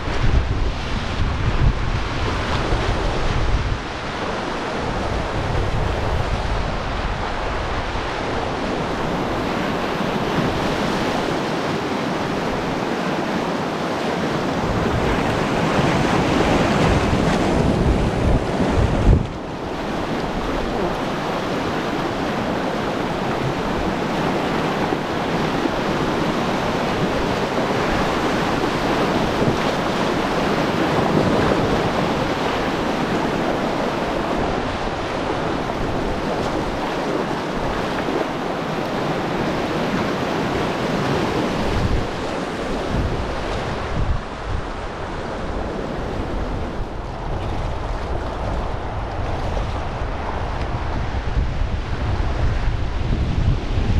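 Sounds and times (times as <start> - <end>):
river whitewater rushing: 0.0 - 53.9
wind buffeting microphone: 0.0 - 53.9.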